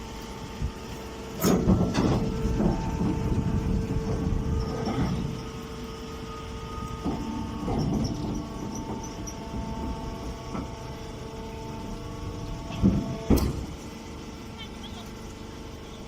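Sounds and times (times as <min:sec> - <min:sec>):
baler machine humming: 0:00.0 - 0:16.0.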